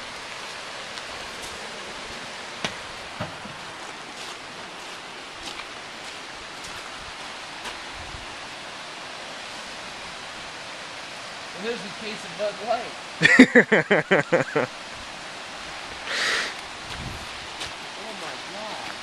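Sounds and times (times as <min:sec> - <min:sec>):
rushing hiss of outdoor noise: 0:00.0 - 0:19.0.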